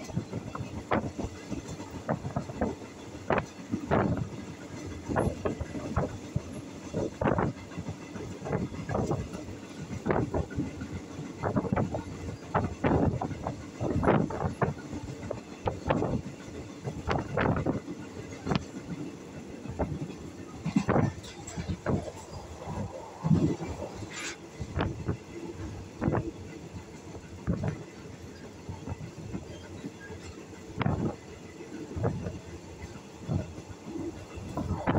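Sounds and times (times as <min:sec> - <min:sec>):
train rumbling: 0:00.0 - 0:34.9
wheels clacking on rails: 0:00.0 - 0:34.9.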